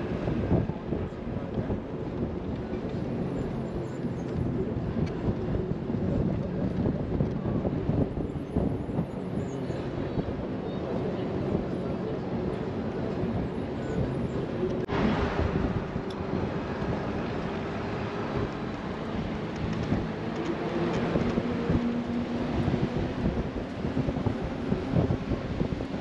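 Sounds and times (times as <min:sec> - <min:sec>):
bus engine humming: 0:00.0 - 0:26.0
road rumble: 0:00.0 - 0:26.0.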